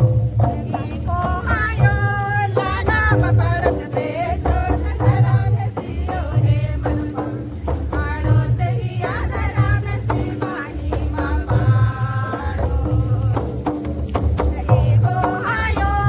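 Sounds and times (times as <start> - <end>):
hand drum beating: 0.0 - 16.0
women singing folk song: 0.3 - 16.0.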